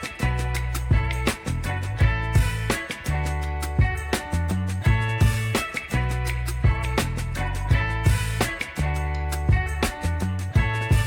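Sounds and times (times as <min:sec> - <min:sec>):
music with bass and drum beat: 0:00.0 - 0:11.0.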